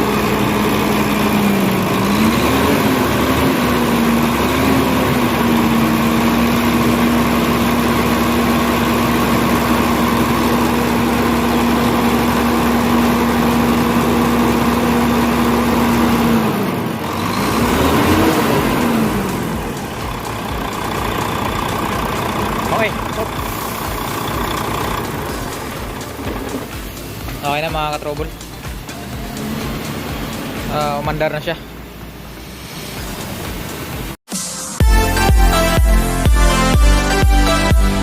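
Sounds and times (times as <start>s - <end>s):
diesel truck engine running: 0.0s - 34.2s, 34.8s - 38.0s.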